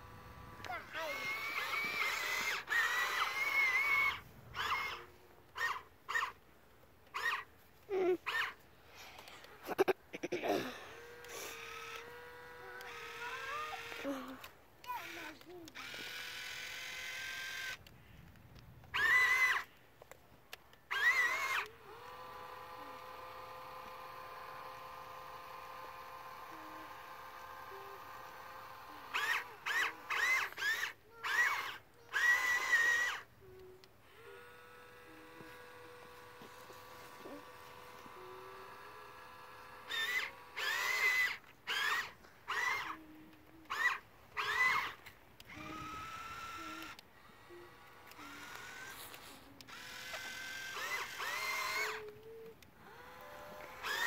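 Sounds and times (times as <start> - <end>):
small electric motors whining: 0.0 - 6.4, 7.0 - 54.0.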